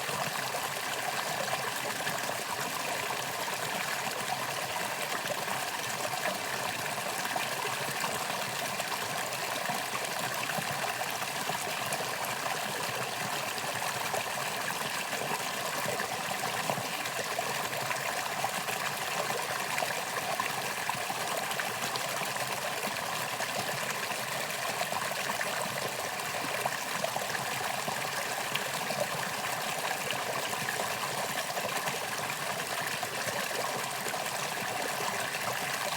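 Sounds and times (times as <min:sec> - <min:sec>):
stream flowing over rocks: 0:00.0 - 0:35.9.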